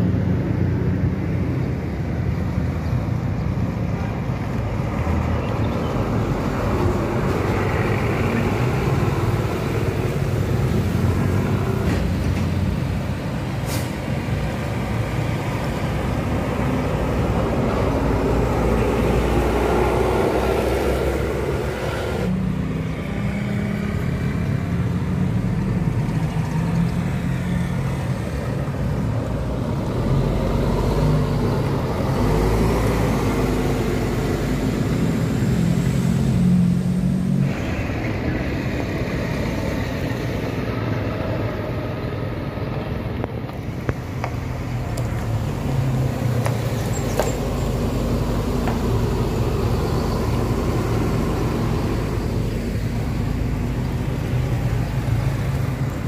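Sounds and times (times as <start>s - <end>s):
bus diesel engines running: 0.0s - 56.0s
car passing: 4.5s - 56.0s.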